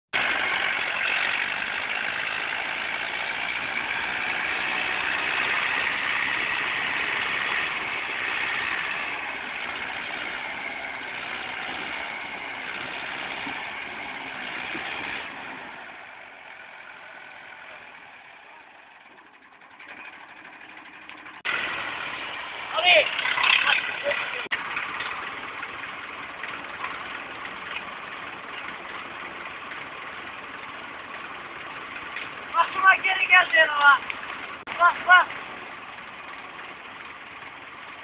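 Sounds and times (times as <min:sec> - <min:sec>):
tractor diesel engine running hard: 0:00.1 - 0:38.0.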